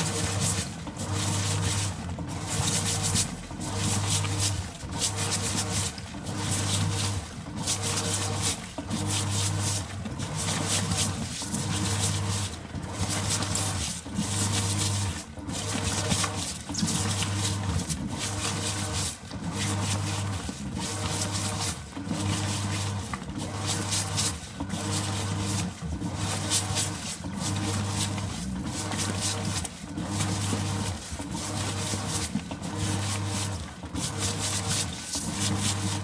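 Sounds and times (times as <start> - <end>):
shoes churning in water: 0.0 - 36.0
washing machine motor hum: 0.0 - 36.0.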